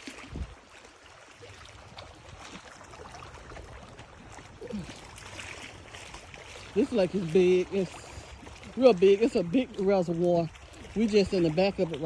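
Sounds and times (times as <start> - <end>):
lake water washing: 0.0 - 12.0
wind buffeting microphone: 0.1 - 0.6, 1.5 - 12.0.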